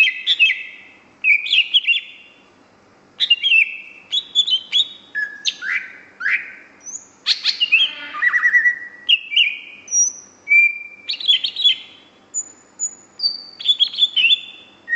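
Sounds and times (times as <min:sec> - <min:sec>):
bird singing whistled phrases: 0:00.0 - 0:02.4, 0:03.2 - 0:14.9.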